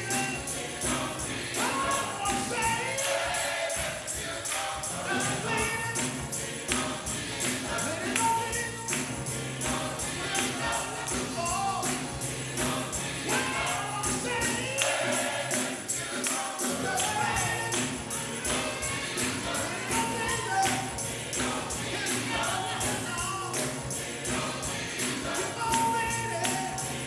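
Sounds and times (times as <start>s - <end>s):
gospel choir singing: 0.0s - 27.0s
instrumental accompaniment: 0.0s - 27.0s
tambourine shaken rhythmically: 0.0s - 27.0s.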